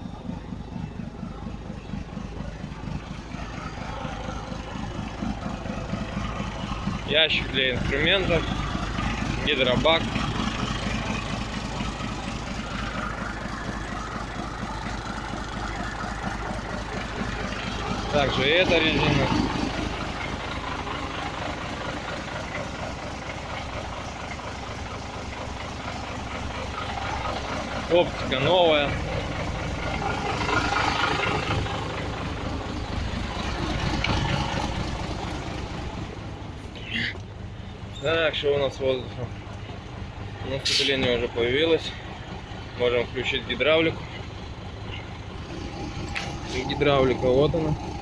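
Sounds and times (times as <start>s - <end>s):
truck diesel engine idling: 0.0s - 48.0s.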